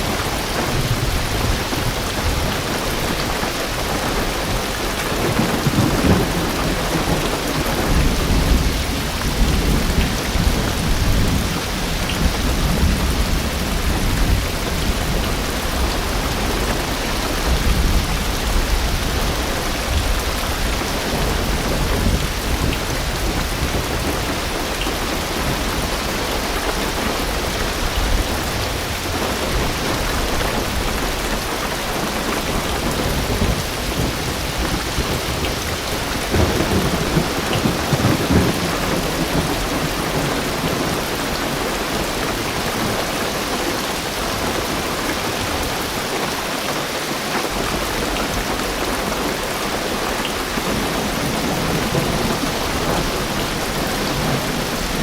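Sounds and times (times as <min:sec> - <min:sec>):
thunder rumbling: 0:00.0 - 0:46.2, 0:47.6 - 0:55.0
heavy rain on car roof: 0:00.0 - 0:55.0.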